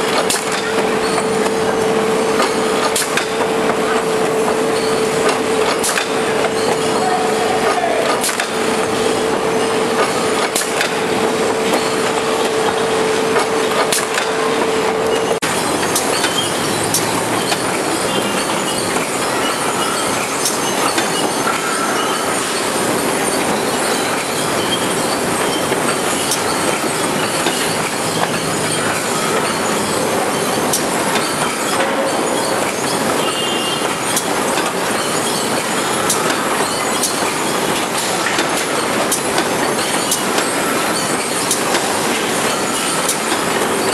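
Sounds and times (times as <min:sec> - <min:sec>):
sharp machine clicks: 0:00.0 - 0:07.0, 0:08.0 - 0:43.9
machine clatter and hiss: 0:00.0 - 0:43.9.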